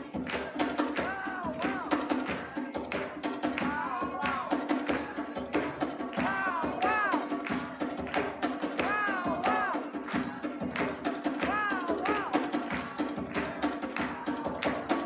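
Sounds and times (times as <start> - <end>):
fast drum rhythm: 0.0 - 15.0.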